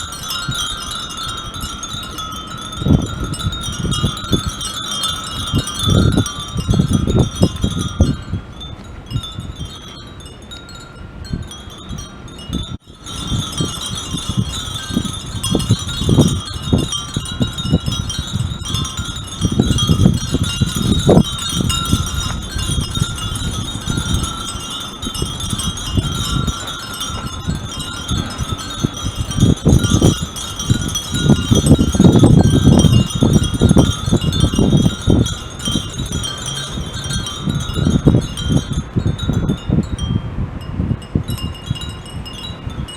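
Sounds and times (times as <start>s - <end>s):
low rumbling gusts: 0.0s - 42.9s
wind chimes tinkling: 0.0s - 42.9s.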